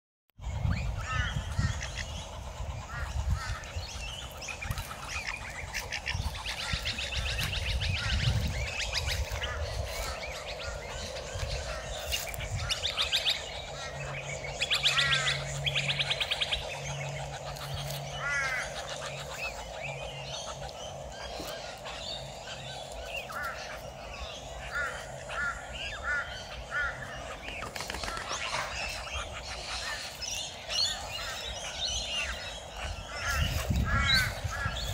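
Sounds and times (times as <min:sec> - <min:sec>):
birds chirping: 0:00.4 - 0:34.9
harsh buzzy bird calls: 0:00.4 - 0:34.9
low rumble: 0:00.4 - 0:34.9.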